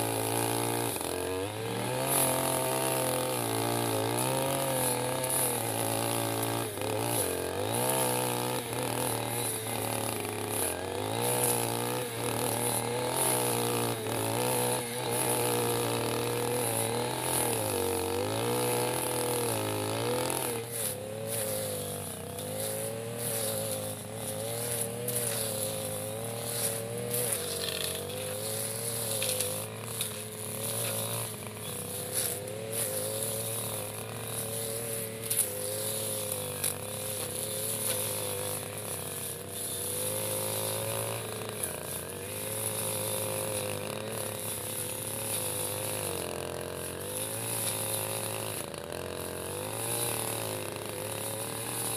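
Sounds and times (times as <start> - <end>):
brush cutter engine cutting grass: 0.0 - 51.9.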